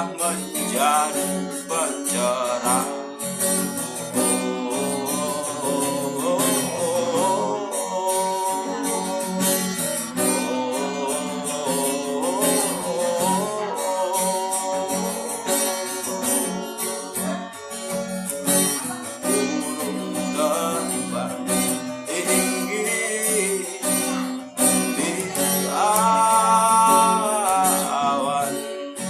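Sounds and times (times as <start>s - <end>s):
acoustic guitar strumming: 0.0s - 29.0s
guitar melody line bending: 0.0s - 29.0s.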